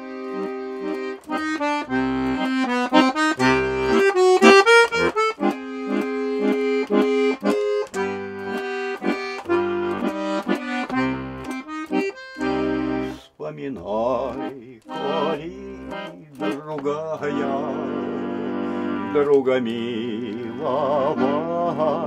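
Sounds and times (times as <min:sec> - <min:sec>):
accordion playing: 0:00.0 - 0:22.0.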